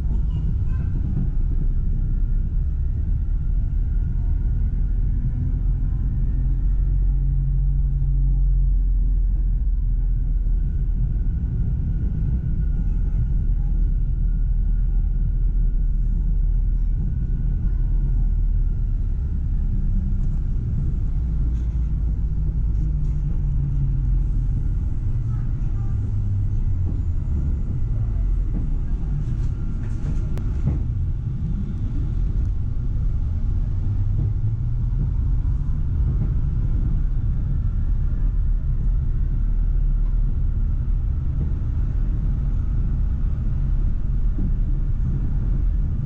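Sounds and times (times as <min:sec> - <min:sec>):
tram rumbling on track: 0:00.0 - 0:46.0.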